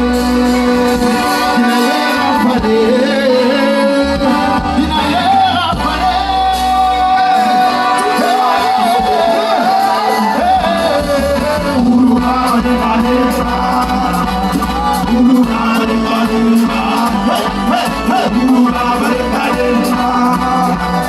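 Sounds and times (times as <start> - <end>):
person singing: 0.0 - 21.0.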